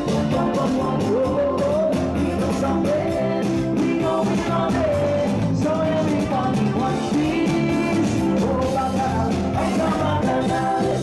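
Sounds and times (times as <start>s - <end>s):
person singing amplified: 0.0s - 11.0s
steady drum beat: 0.0s - 11.0s.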